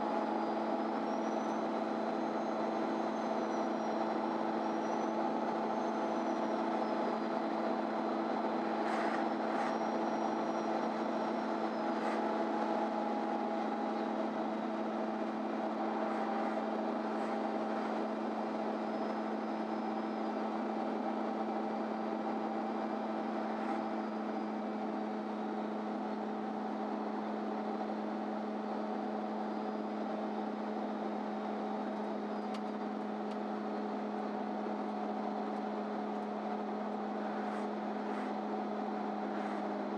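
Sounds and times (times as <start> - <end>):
bus drivetrain hum: 0.0 - 39.9
faint high whine: 0.0 - 39.9.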